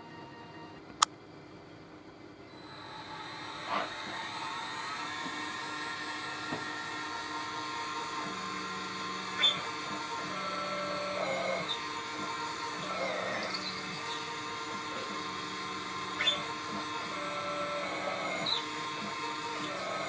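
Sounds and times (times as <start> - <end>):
machine motor whine: 0.0 - 1.0, 2.3 - 20.0.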